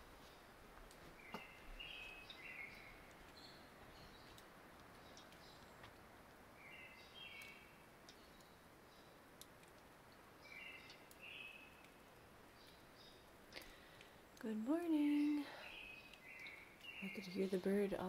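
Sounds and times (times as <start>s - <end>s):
songbird singing faintly: 0.0s - 18.0s
steady low hiss: 0.0s - 18.0s.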